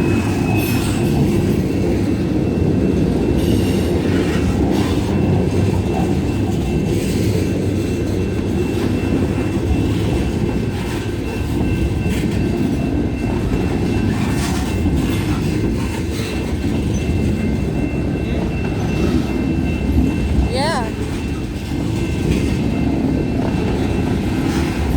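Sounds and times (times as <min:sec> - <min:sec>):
freight train rumbling on rails: 0:00.0 - 0:24.9.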